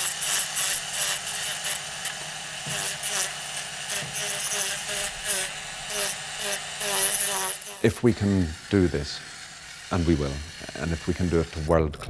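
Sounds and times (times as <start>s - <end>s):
cutting disc grating on plaster: 0.0s - 12.0s
rotary tool motor whine: 0.0s - 12.0s.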